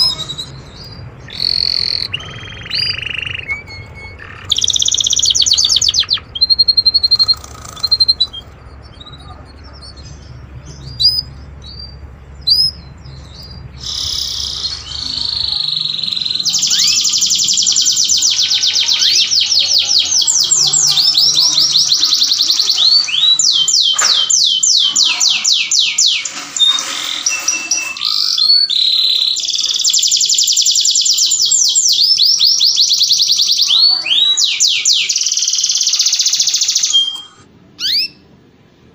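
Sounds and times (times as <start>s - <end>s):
canary chirping and trilling: 0.0s - 38.3s.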